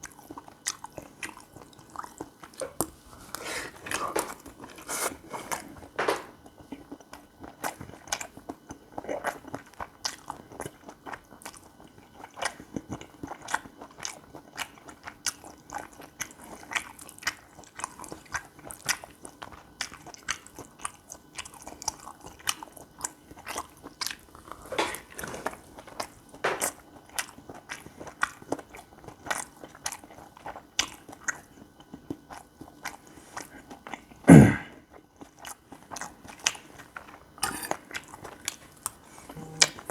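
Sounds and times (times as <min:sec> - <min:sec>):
close chewing with wet mouth clicks: 0:00.0 - 0:39.9.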